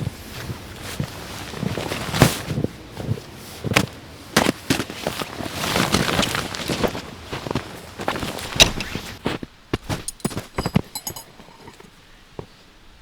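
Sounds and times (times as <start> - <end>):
footsteps crunching through snow: 0.0 - 11.7.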